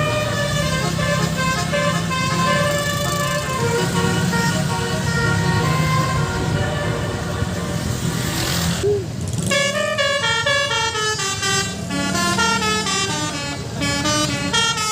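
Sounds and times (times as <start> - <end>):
multi-note bus air horn tune: 0.0 - 7.8, 9.5 - 14.9
bus engine humming: 0.0 - 14.9.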